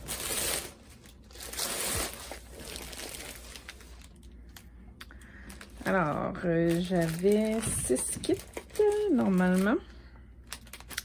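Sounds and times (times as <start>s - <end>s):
plastic mailer bag crinkling: 0.0s - 4.6s, 5.3s - 11.0s.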